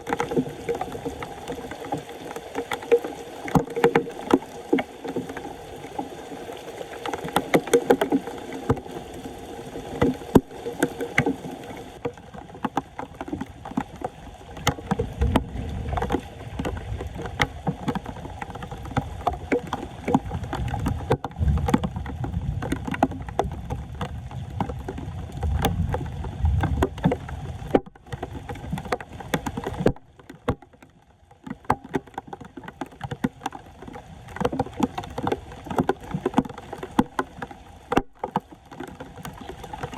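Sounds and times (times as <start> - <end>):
floodwater sloshing and splashing: 0.0 - 39.9
water churning: 0.0 - 39.9.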